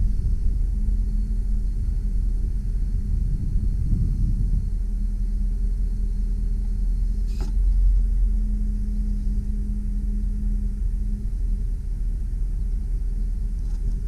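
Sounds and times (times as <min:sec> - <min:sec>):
hydraulic hum: 0:00.0 - 0:14.0.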